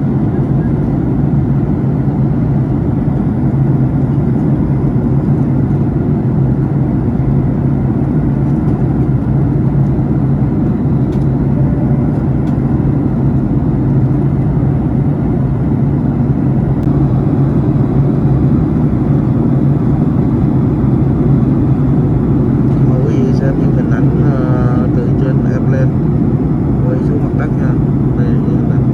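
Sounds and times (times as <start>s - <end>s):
constant hum: 0.0s - 28.9s
jet engine drone in cabin: 0.0s - 28.9s.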